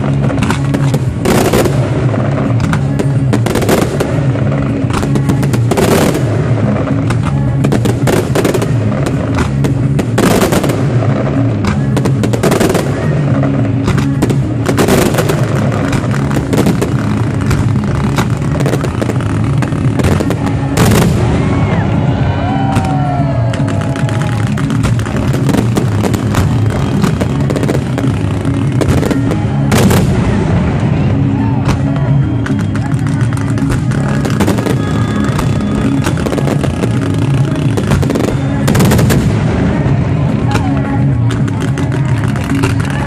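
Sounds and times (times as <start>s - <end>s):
fireworks bursts and crackling: 0.0s - 43.0s
heavy firework bangs: 0.0s - 43.0s
music: 0.0s - 43.0s.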